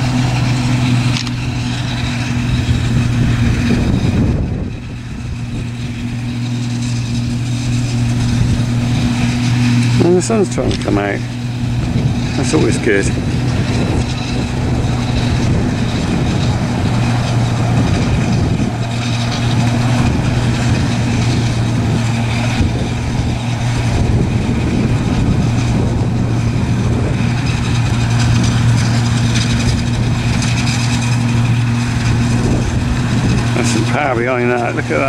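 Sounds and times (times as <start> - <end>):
harvesting machinery engines: 0.0 - 35.0.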